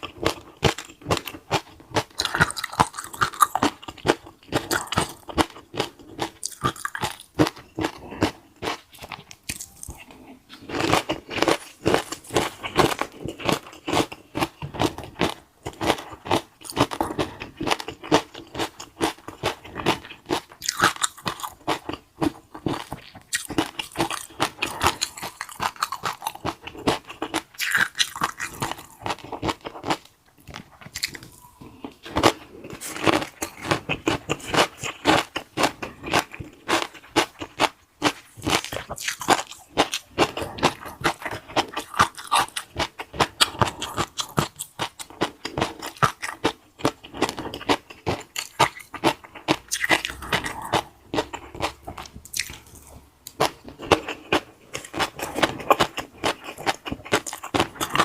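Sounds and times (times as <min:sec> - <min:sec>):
crunchy chewing of crisp food: 0:00.0 - 0:58.0.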